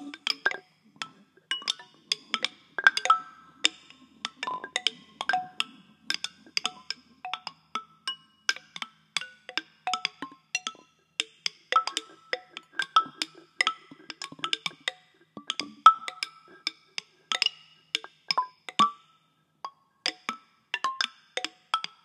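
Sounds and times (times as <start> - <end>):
percussion clicks and knocks: 0.0 - 22.0.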